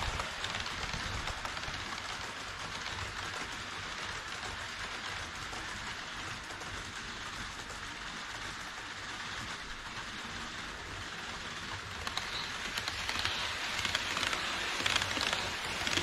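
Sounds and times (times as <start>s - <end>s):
model train rolling on track: 0.0s - 16.0s.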